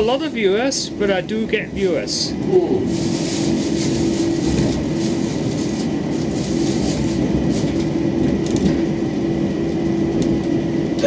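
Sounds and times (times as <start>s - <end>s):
constant hum: 0.0s - 11.0s
train carriage rumbling on track: 0.0s - 11.0s.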